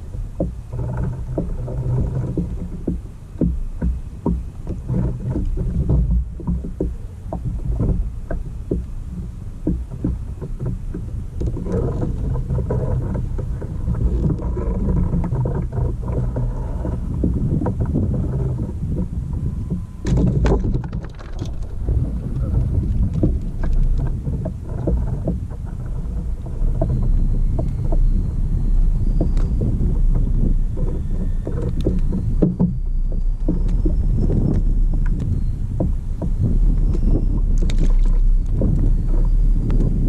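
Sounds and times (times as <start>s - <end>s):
low rumble: 0.0s - 40.0s
water slapping against kayak hull: 0.0s - 40.0s.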